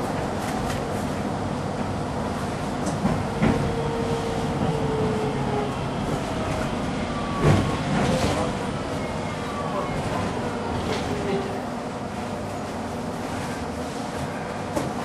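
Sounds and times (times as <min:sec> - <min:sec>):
streetcar wheels rumbling on rails: 0:00.0 - 0:15.0.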